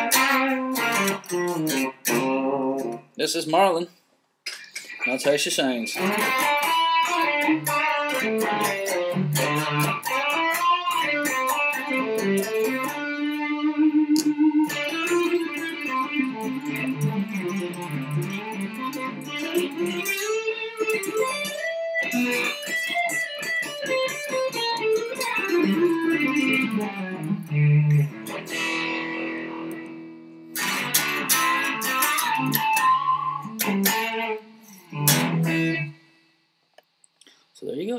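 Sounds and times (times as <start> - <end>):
electric guitar playing: 0.0 - 3.2, 4.7 - 36.2.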